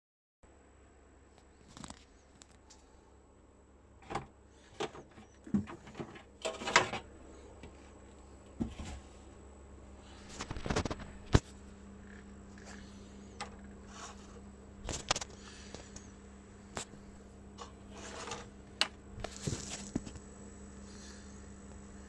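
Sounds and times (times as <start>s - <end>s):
steady low hum: 0.4s - 22.0s.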